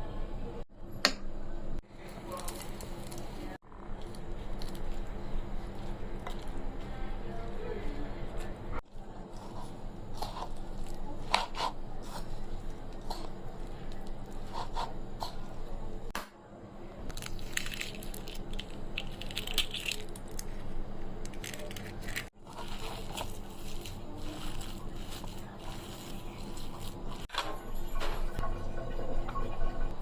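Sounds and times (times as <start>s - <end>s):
soft squishing handling noises: 1.9s - 16.1s, 17.1s - 27.3s.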